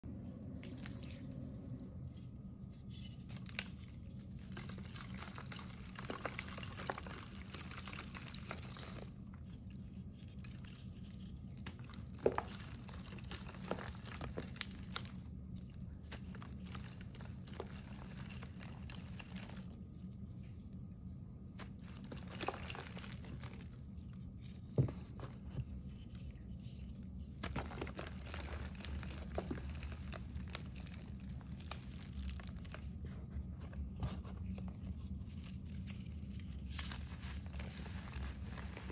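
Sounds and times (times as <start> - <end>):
steady low hum: 0.0 - 38.9
chalk crunching: 2.1 - 20.3, 21.5 - 32.9, 33.8 - 38.9.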